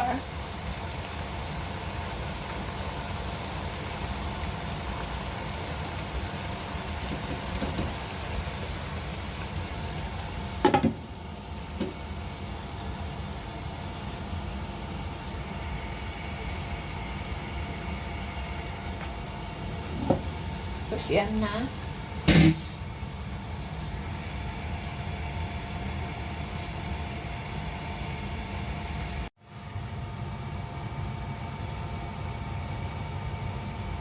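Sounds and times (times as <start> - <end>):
food sizzling in a pan: 0.0 - 11.1, 11.8 - 29.3.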